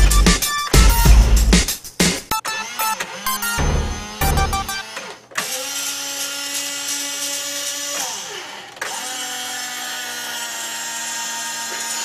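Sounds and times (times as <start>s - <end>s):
small gearmotors whining: 2.3s - 12.0s.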